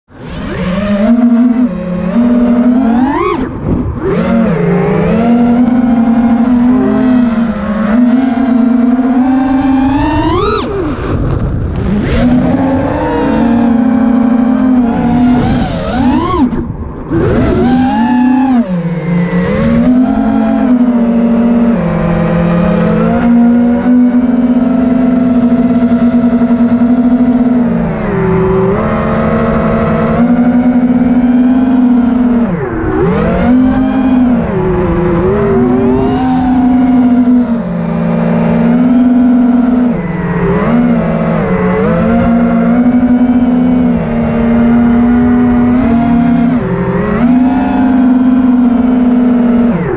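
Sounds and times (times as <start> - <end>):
drone motors whining: 0.1 - 49.9.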